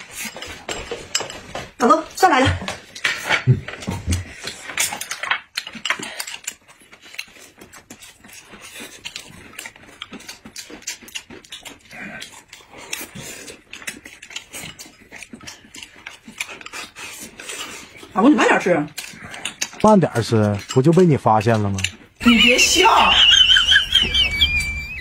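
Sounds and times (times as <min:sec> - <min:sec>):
chewing: 0:00.0 - 0:24.8.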